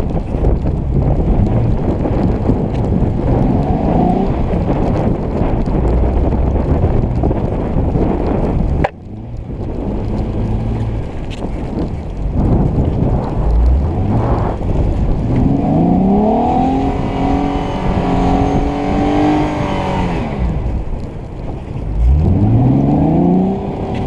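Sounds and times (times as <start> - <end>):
engine rumble: 0.0 - 24.0
wind buffeting microphone: 0.0 - 24.0.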